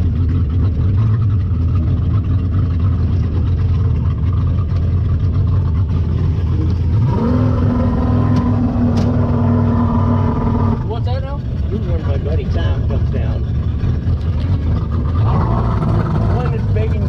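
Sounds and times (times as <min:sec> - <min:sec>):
motorboat engine revving: 0:00.0 - 0:17.0.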